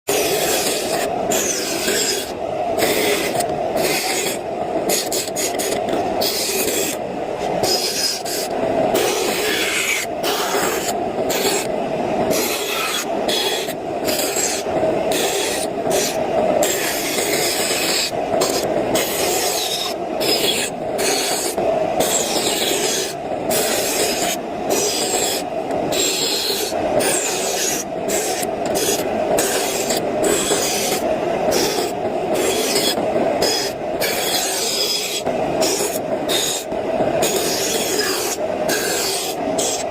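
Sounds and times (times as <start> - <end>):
saw cutting through wood: 0.1 - 11.7, 12.3 - 39.9.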